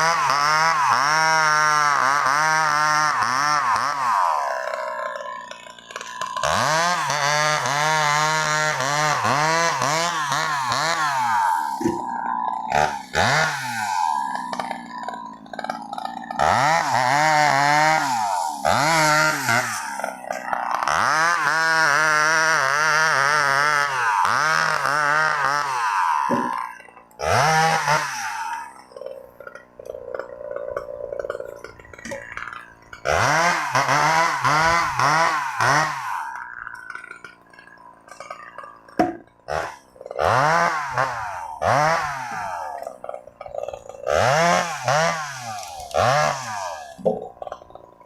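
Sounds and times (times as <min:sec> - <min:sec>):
chainsaw engine idling and revving: 0:00.0 - 0:48.0.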